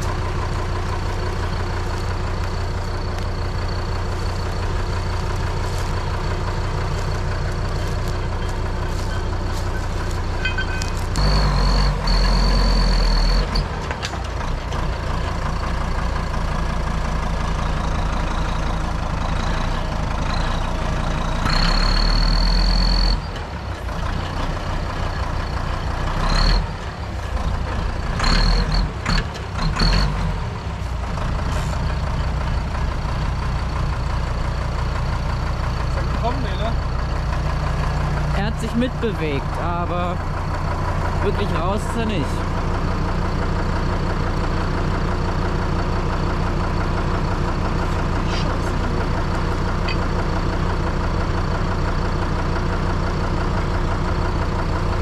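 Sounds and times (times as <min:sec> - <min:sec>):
tractor diesel engine straining: 0:00.0 - 0:55.0.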